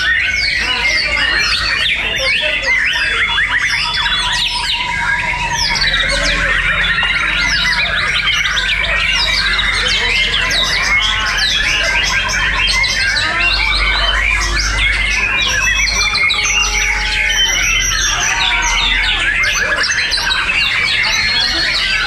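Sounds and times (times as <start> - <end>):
songbirds whistling and trilling: 0.0 - 22.0.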